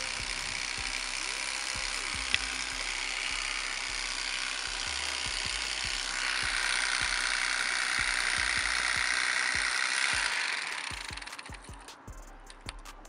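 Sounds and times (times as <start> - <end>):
electric knife sawing fish: 0.0 - 11.8.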